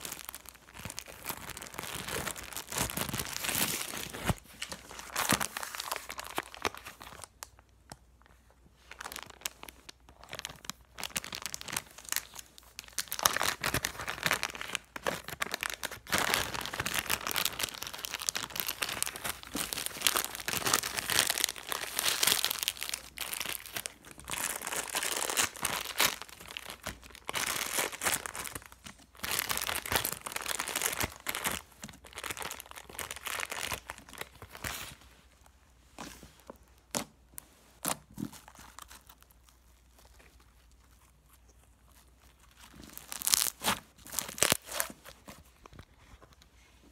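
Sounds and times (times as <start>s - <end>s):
plastic bag crinkling: 0.0s - 7.7s, 8.9s - 35.0s, 38.2s - 45.9s.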